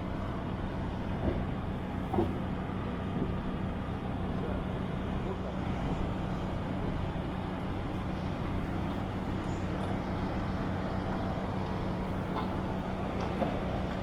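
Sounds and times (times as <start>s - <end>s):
aircraft cabin hum and air rush: 0.0s - 14.0s.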